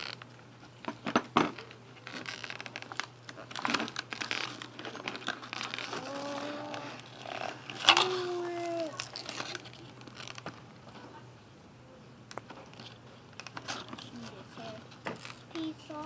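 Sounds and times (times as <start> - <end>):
plastic packaging crinkling: 0.0 - 11.0, 12.4 - 16.0.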